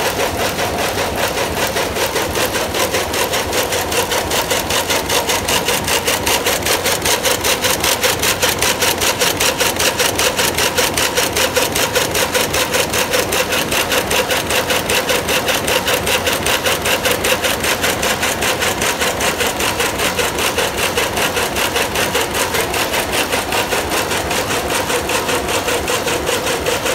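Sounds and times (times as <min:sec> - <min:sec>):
loom clattering: 0:00.0 - 0:26.9.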